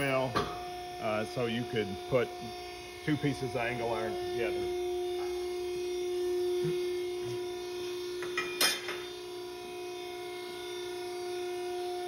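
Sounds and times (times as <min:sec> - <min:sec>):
motor and pump humming: 0:00.0 - 0:12.0.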